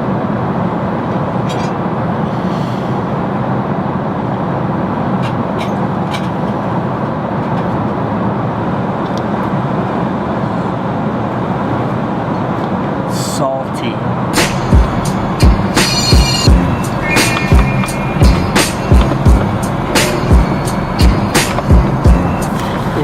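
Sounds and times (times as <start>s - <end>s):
engines and rushing air roar: 0.0s - 23.0s.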